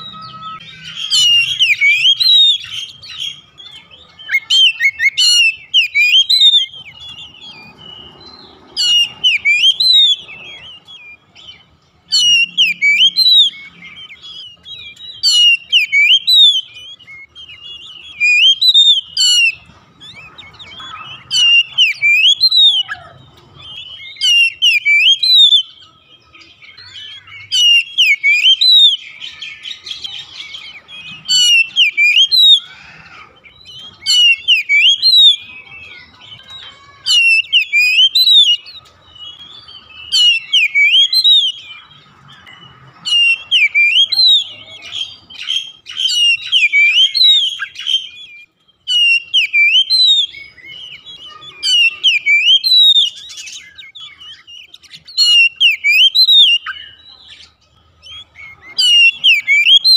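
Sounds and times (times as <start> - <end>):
bird singing whistled notes: 0.0 - 59.9
soft bird twittering: 0.0 - 59.9.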